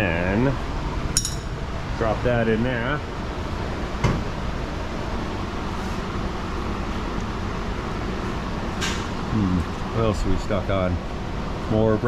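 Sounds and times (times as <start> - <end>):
repair shop hum: 1.1 - 11.3.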